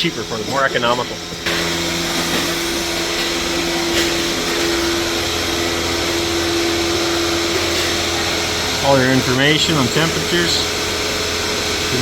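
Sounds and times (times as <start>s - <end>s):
machinery whirring and humming: 0.0s - 12.0s.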